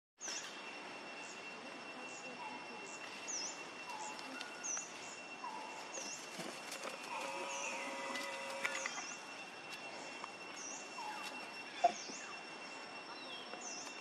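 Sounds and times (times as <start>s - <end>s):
high-pitched whine: 0.2s - 14.0s.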